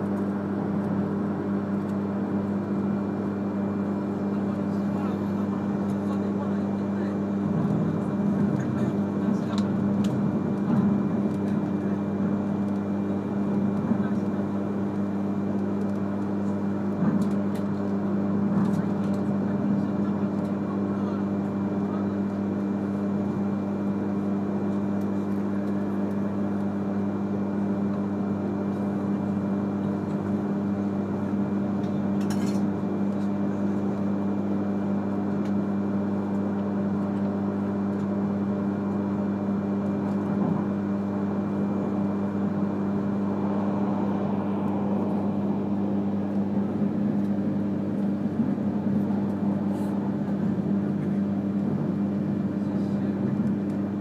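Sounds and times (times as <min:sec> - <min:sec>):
train cabin hum: 0:03.4 - 0:54.0.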